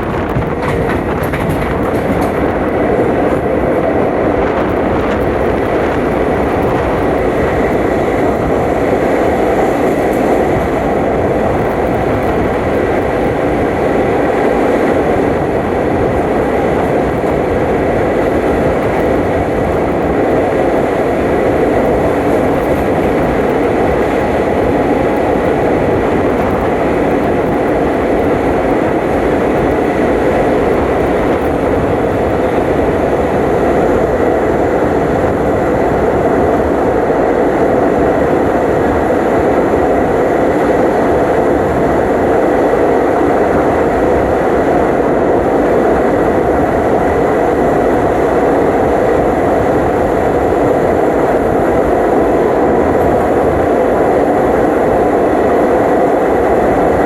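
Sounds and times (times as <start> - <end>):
train wheels rumbling and rattling: 0.0 - 57.0.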